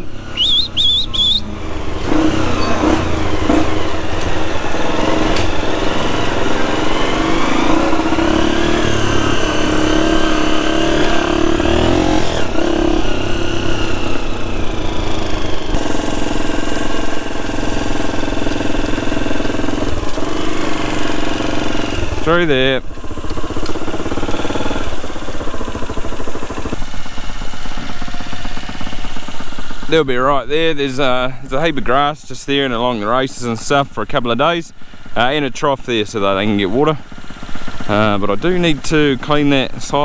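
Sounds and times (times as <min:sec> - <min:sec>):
small petrol engine running: 0:00.0 - 0:40.0.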